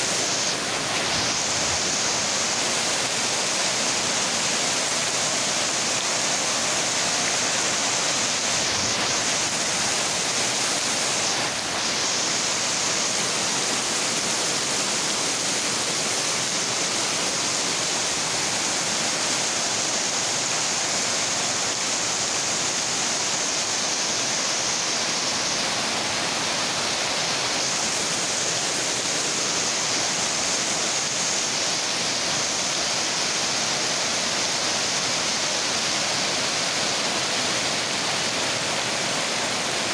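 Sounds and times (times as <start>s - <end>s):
heavy rain falling: 0.0s - 39.9s
rainwater pouring off metal roofs: 0.0s - 39.9s.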